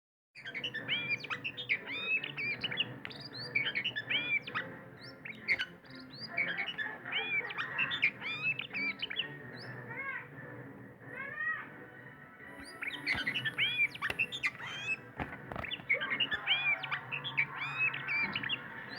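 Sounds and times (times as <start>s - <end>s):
bird singing whistled notes: 0.4s - 10.0s, 12.4s - 18.9s.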